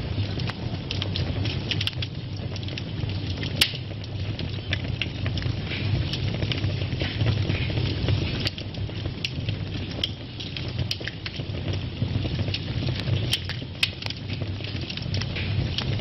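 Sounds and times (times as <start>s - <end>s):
fire flames rumbling: 0.0s - 16.0s
wood fire crackling and popping: 0.0s - 16.0s.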